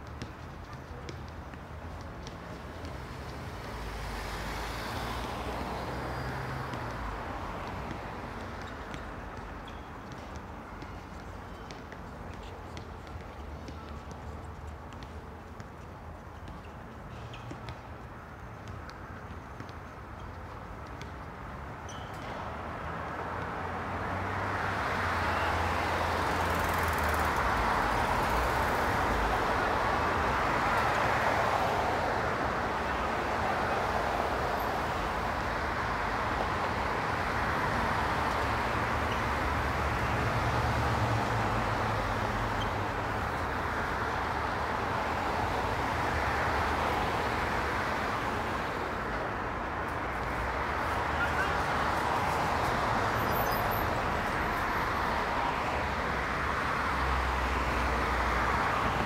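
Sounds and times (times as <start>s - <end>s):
cars passing on road: 0.0s - 59.0s.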